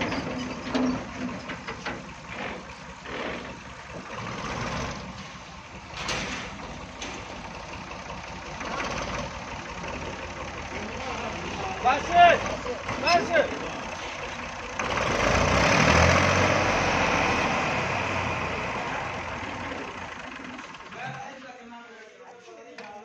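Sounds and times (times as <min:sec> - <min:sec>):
tractor engine running: 0:00.0 - 0:21.6.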